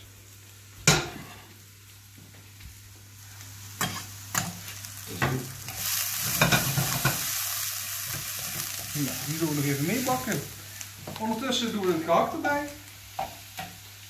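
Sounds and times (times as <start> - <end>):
onion sizzling in a pan: 0.0 - 14.0.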